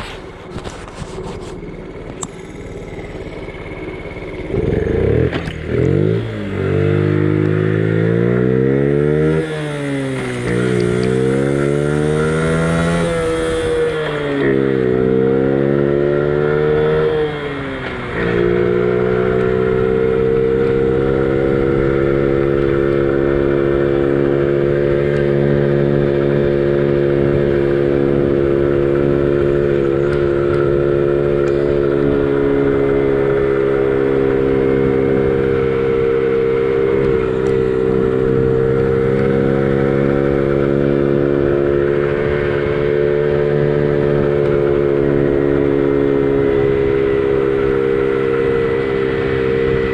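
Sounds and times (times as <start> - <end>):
small motorbike engine: 0.0 - 49.9.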